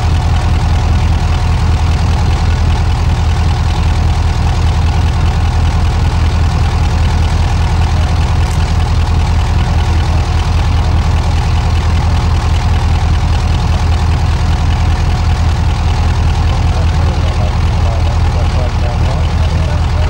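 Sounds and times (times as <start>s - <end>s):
diesel locomotives idling: 0.0s - 20.0s.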